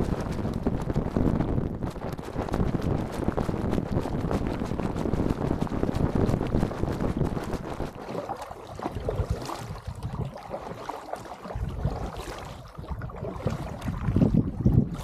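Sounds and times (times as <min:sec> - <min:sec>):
paddle strokes splashing water: 0:00.0 - 0:15.0
water washing along hull: 0:00.0 - 0:15.0
wind rumble on microphone: 0:00.0 - 0:15.0.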